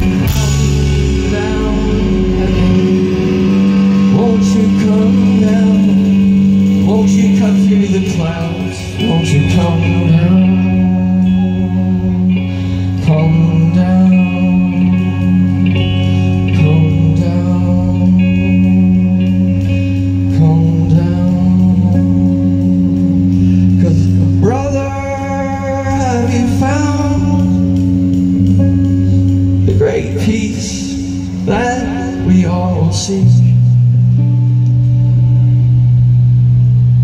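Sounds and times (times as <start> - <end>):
man singing: 0.0 - 34.8
bass line: 0.0 - 37.0
electric guitar chords: 0.0 - 37.0.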